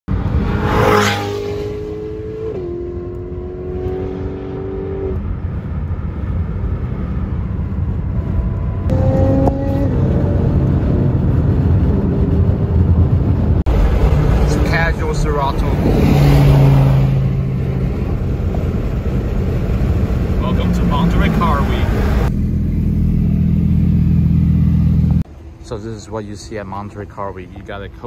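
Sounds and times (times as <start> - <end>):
car engines running: 0.1 - 28.0.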